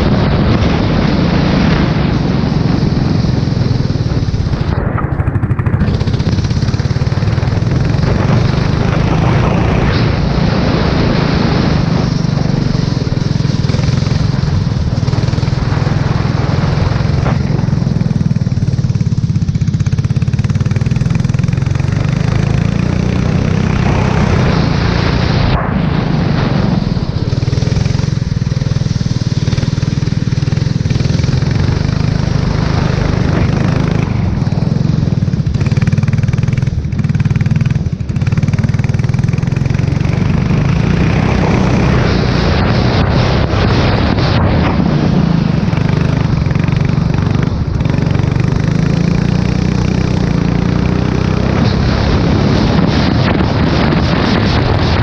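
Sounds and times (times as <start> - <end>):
race car engine at speed: 0.0 - 55.0
wind and spray rush: 0.0 - 55.0.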